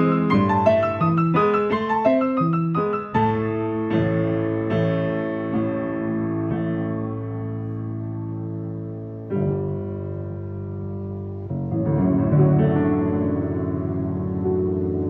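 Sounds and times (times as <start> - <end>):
piano single notes: 0.0 - 15.0.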